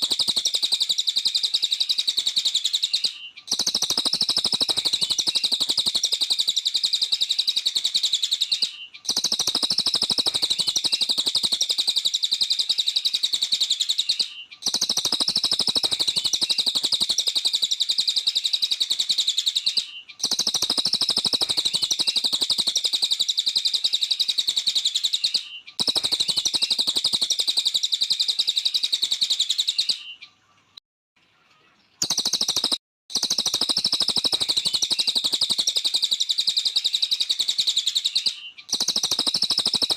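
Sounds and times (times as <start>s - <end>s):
bird high twittering song: 0.0s - 39.9s.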